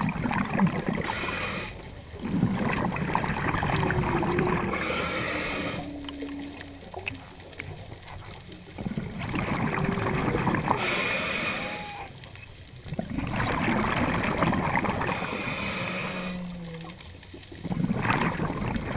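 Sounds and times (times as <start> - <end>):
regulator bubbles rushing: 0.0 - 1.2, 1.8 - 10.9, 12.8 - 15.4, 16.4 - 18.9
faint whale song: 0.0 - 18.9.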